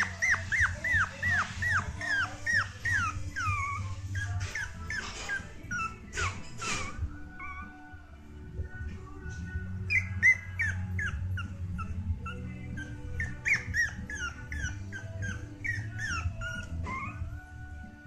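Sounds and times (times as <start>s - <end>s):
puppy whimpering: 0.0s - 8.0s, 9.6s - 17.7s.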